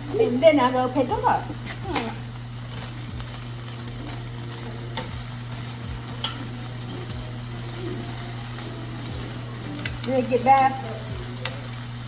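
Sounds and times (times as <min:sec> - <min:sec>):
chicken sizzling in a pan: 0:00.0 - 0:12.0
low steady hum: 0:00.0 - 0:12.0.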